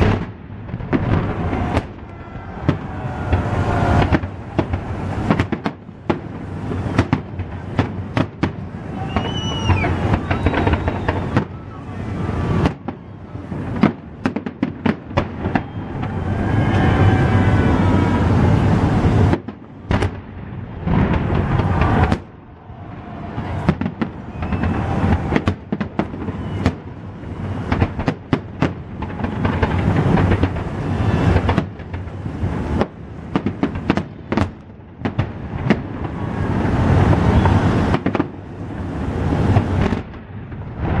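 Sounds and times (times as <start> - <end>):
fireworks banging and crackling: 0.0 - 41.0.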